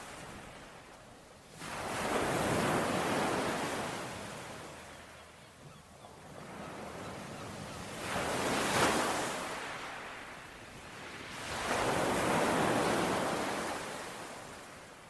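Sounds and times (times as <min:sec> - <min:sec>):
ocean waves washing ashore: 0:00.0 - 0:05.4, 0:06.2 - 0:15.0.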